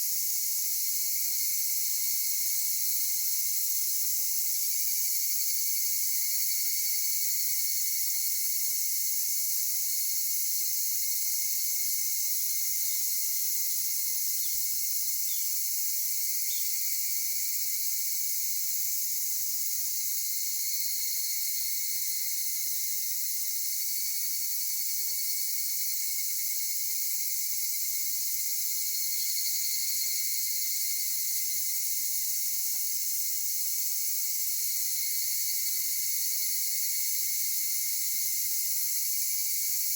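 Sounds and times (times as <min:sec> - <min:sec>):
insects singing shrill drone: 0:00.0 - 0:39.9.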